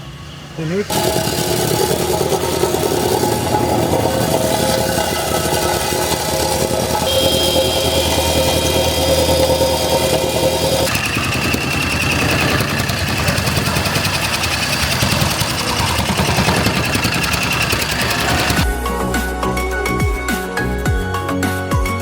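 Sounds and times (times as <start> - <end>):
electric compactor running: 0.8 - 18.7.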